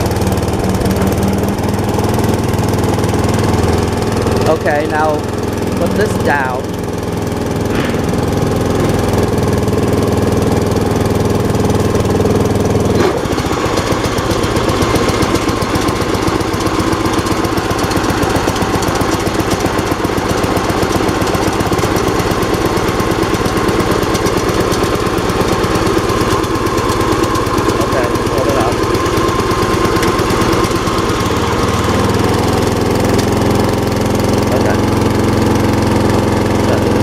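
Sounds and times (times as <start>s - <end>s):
lawn tractor engine running: 0.0s - 37.0s.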